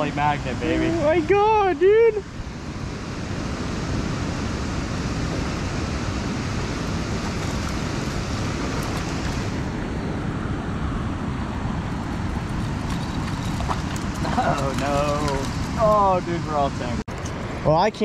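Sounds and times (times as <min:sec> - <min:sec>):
wind buffeting microphone: 0:00.0 - 0:17.6
water rushing from dam outlet: 0:00.0 - 0:17.8.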